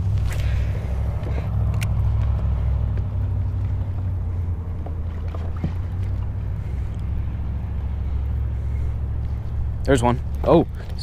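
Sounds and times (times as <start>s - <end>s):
boat engine rumble and hum: 0.0s - 11.0s.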